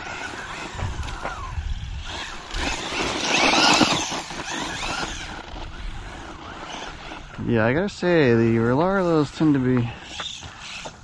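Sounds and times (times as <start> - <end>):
toy car motor whining: 0.0 - 11.0.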